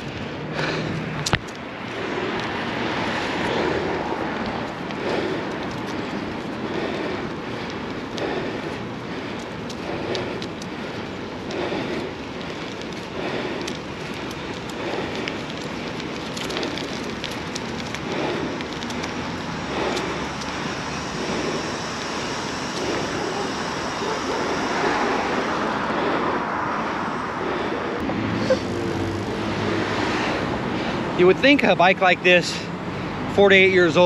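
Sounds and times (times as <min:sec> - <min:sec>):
passing traffic: 0:00.0 - 0:34.0
road noise: 0:00.0 - 0:34.0.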